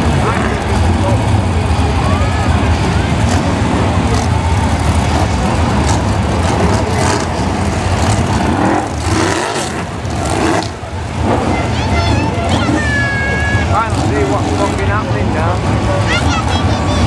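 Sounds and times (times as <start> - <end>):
stock car engines rumbling: 0.0 - 17.0.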